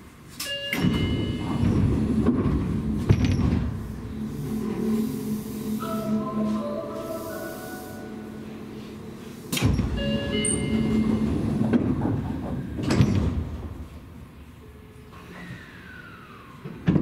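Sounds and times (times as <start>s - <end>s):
train running: 0.0s - 16.8s
loud rush of train: 0.0s - 17.0s.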